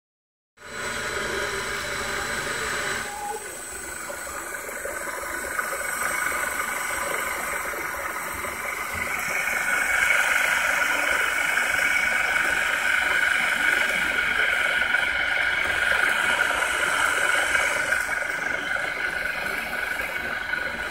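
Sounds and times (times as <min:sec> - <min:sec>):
electric motor whine: 0:00.6 - 0:20.9.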